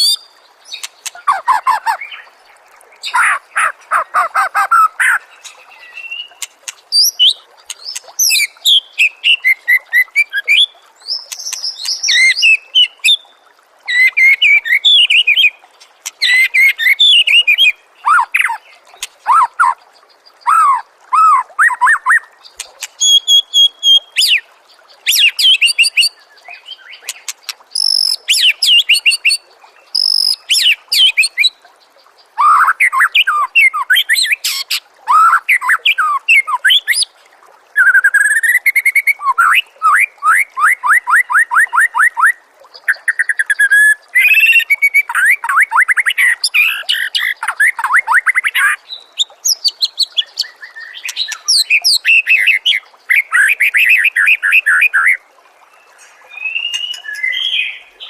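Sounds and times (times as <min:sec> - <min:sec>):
songbird singing: 0:00.0 - 0:37.1, 0:37.8 - 0:58.0.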